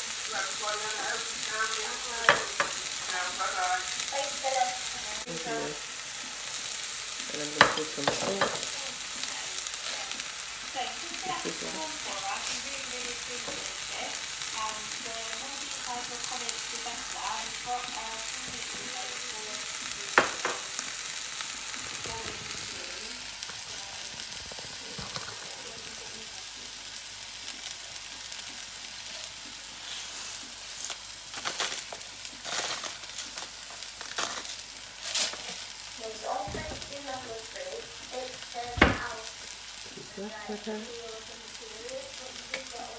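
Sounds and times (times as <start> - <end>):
onions sizzling in oil: 0.0 - 42.9.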